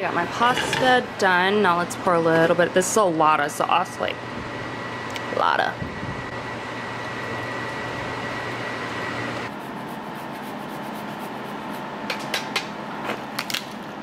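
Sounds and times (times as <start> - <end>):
steady hum with high tone: 0.0 - 14.0.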